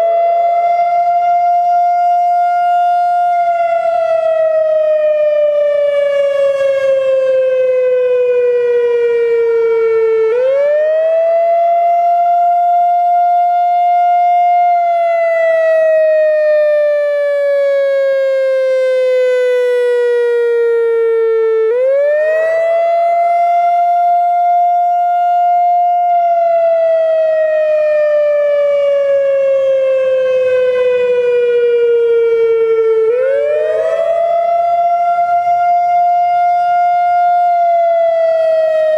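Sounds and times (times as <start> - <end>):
tornado siren wailing: 0.0 - 38.9.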